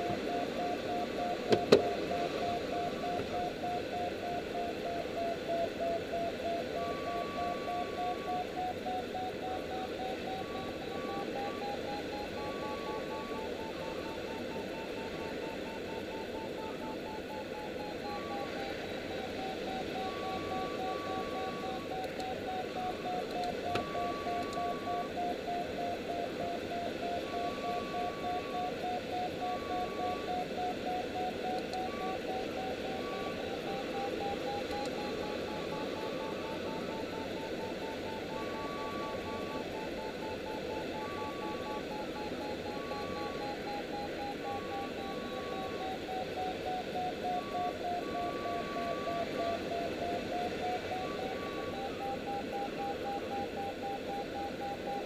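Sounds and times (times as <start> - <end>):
variometer beeping: 0.0 - 55.0.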